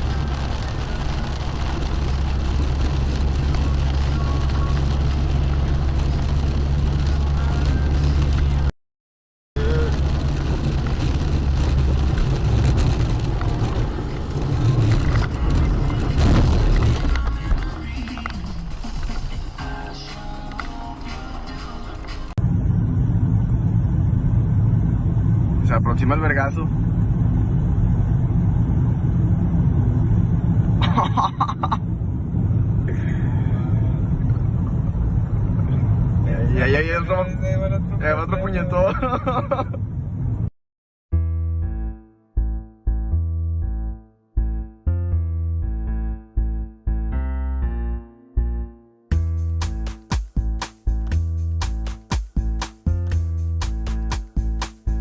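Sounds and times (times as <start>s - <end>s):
car road and engine rumble: 0.0s - 8.7s, 9.6s - 40.5s, 49.1s - 55.0s.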